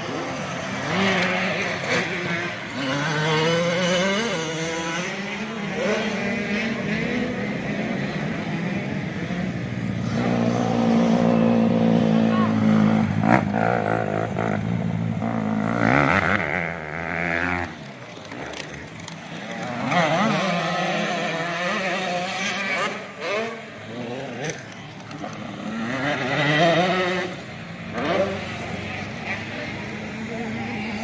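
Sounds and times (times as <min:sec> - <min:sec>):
motocross bikes racing and revving: 0:00.0 - 0:31.0.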